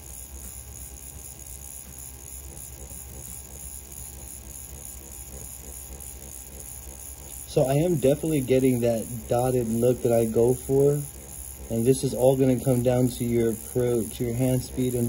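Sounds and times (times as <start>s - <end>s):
tattoo pen motor hum: 0.0s - 15.0s.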